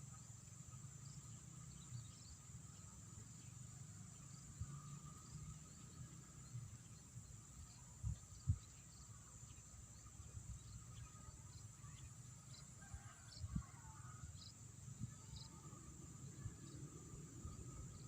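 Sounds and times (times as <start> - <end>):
insects trilling: 0.0 - 18.0
low steady buzz: 0.0 - 18.0.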